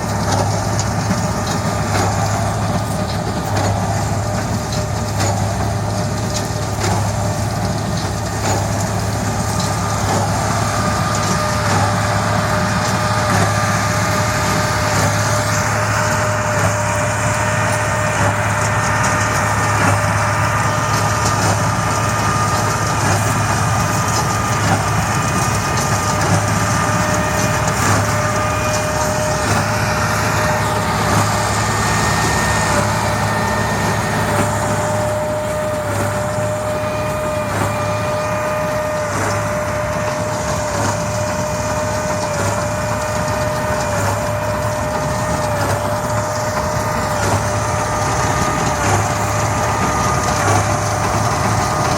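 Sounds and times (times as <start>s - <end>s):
constant machine whine: 0.0s - 51.9s
tractor engine and baler running: 0.0s - 51.9s.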